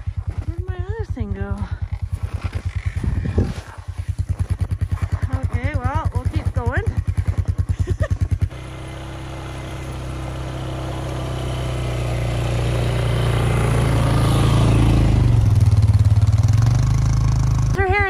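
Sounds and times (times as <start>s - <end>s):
atv engine running under load: 0.0s - 18.0s.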